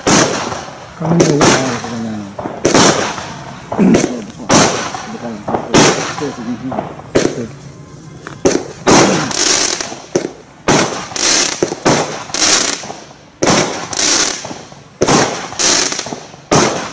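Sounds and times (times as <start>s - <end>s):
firework bangs with hiss: 0.0s - 16.9s.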